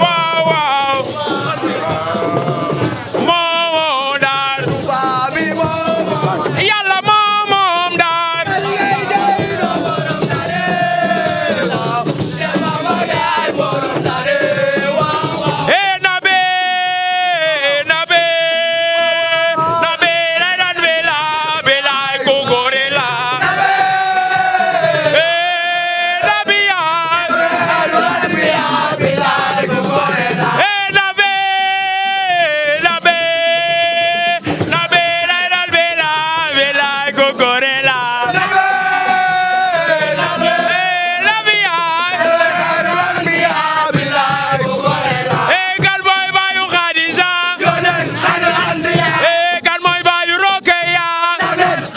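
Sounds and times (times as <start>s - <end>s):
man singing ornamented phrases: 0.0s - 51.9s
music: 0.0s - 51.9s.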